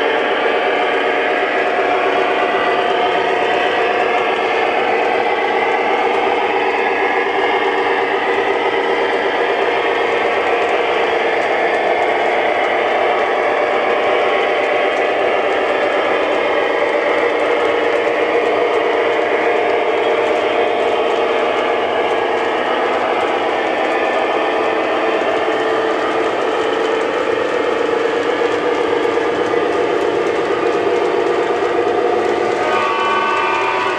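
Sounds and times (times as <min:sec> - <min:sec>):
model train wheels rumbling on track: 0:00.0 - 0:33.9.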